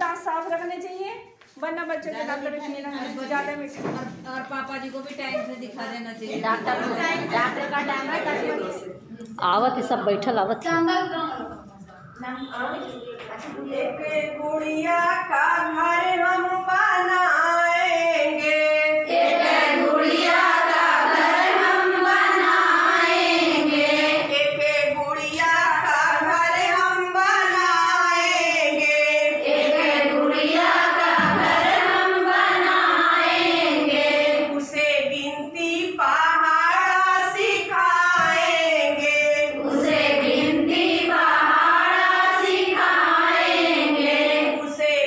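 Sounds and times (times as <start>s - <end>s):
women singing together: 2.0s - 9.1s, 13.4s - 45.0s.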